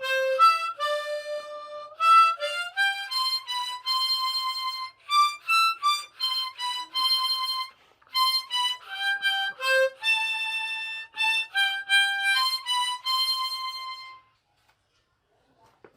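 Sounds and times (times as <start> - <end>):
solo harmonica melody: 0.0 - 14.4.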